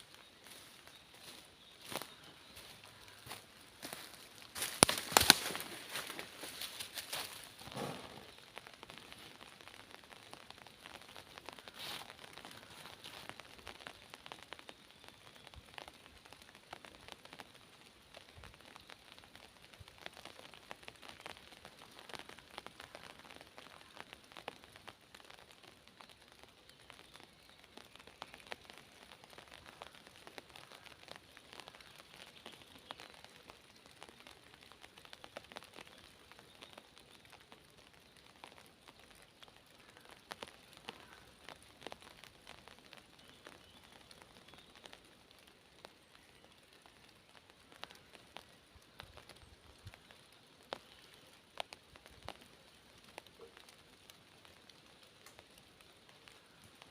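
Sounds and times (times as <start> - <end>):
light rain with dripping drops: 0.0 - 56.9.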